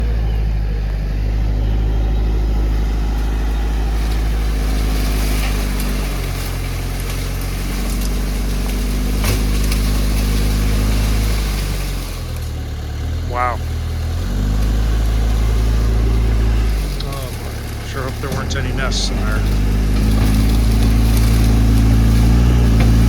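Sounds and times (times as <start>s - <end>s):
tractor engine running: 0.0s - 23.0s
sharp crack: 0.1s - 12.6s, 14.4s - 23.0s.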